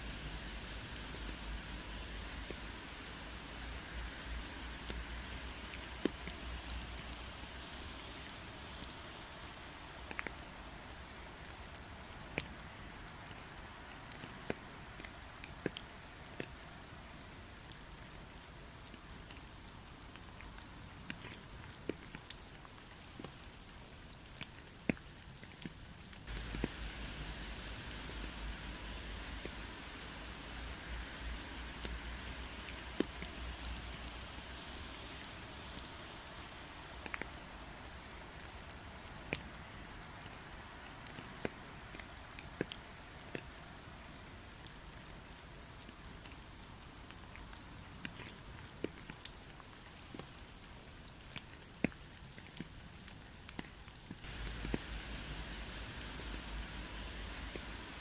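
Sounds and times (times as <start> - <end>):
raindrops ticking: 0.0 - 58.0
steady rain hiss: 0.0 - 58.0.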